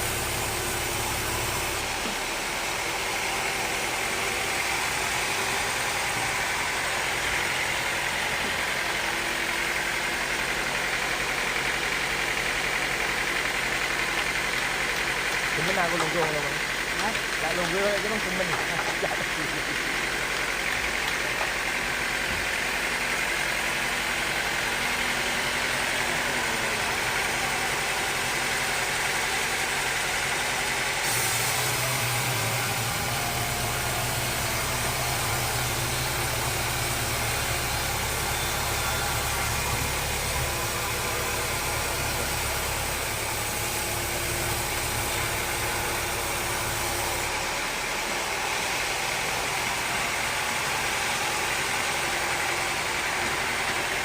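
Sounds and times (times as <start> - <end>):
deeper machine hum: 0.0 - 13.6, 15.1 - 54.0
sawmill machinery humming: 0.0 - 54.0.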